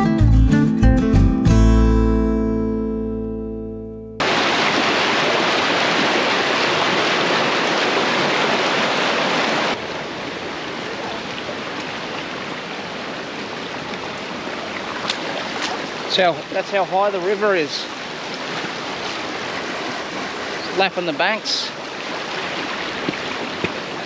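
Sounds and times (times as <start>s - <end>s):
river water rushing over rapids: 4.2s - 24.0s.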